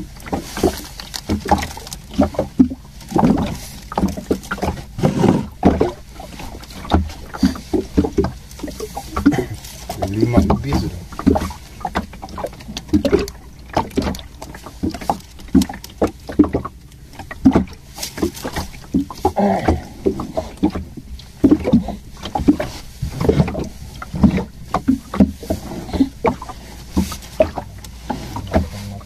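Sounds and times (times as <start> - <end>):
knocks and thumps on boat: 0.0 - 29.0
rumble of water: 0.0 - 29.0
wind: 0.0 - 29.0.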